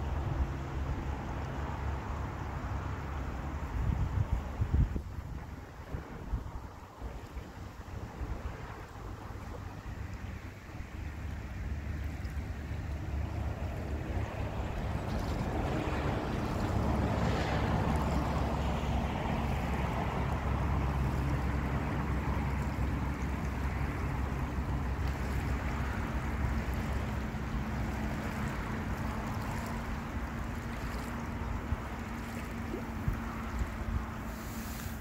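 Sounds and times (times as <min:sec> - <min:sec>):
open-water ambience: 0:00.0 - 0:35.0
wind: 0:00.0 - 0:35.0
distant motorboat engine droning: 0:05.3 - 0:35.0.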